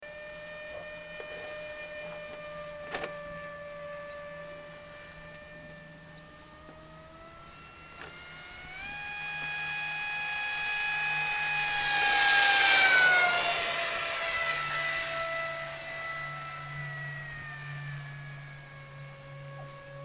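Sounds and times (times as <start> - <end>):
model plane electric motor whine: 0.0 - 20.0.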